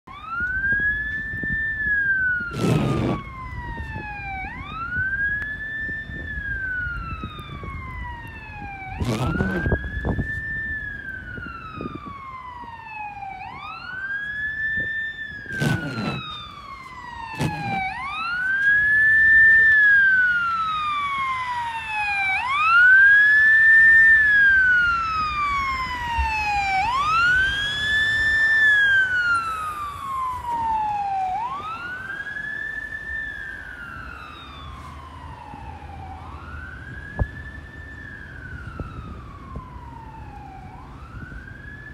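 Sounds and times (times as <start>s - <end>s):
fire truck siren wailing: 0.0s - 41.9s.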